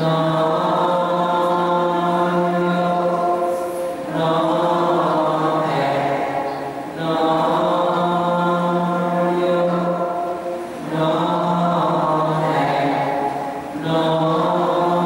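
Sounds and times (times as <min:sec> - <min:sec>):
slow chanting: 0:00.0 - 0:15.0.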